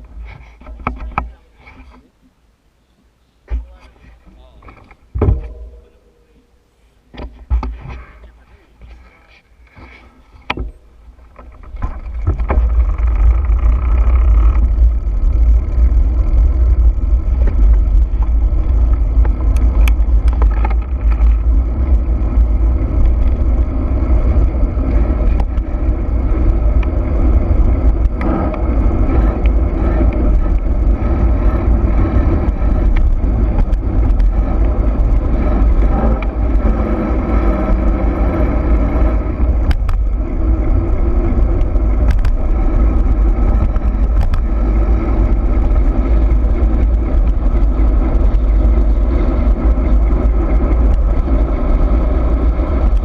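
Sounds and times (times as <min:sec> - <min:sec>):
bike rattling on rough trail: 0:00.0 - 0:02.1, 0:03.4 - 0:06.5, 0:07.1 - 0:53.0.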